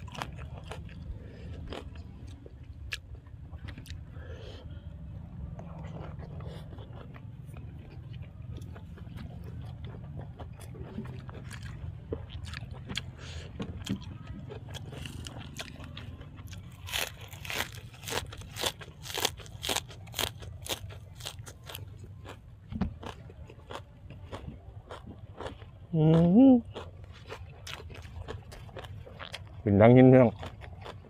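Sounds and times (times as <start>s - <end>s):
chewing crunchy food: 0.0s - 31.0s.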